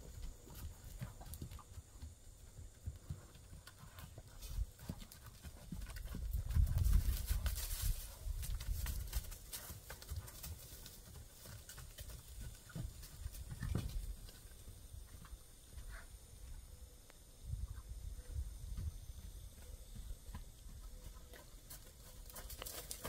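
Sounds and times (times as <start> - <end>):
hooves thudding on dirt: 0.0 - 16.7, 18.3 - 23.0.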